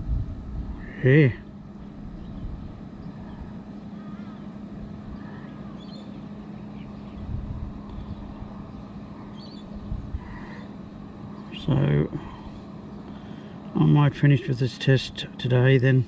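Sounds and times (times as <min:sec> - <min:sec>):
fridge compressor hum: 0:00.0 - 0:16.0.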